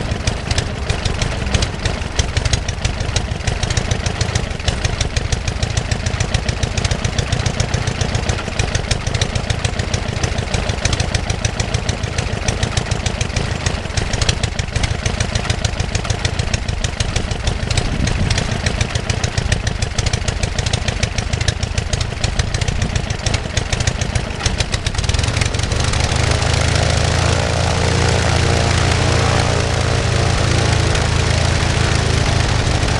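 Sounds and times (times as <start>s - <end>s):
two-cylinder engine running: 0.0s - 32.9s.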